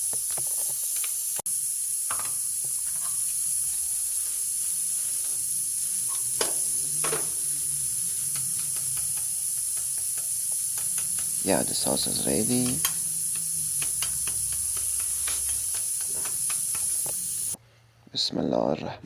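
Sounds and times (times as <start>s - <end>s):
steady high hiss: 0.0s - 17.6s.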